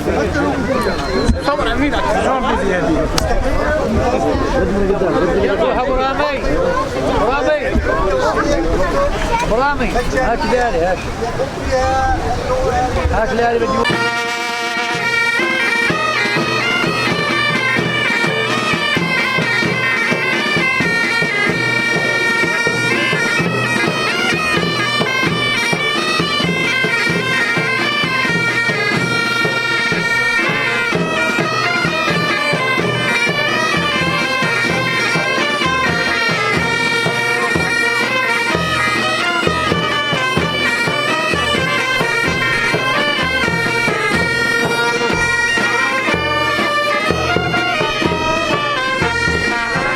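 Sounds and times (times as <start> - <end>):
bagpipe band playing: 0.0 - 5.3, 13.8 - 49.9.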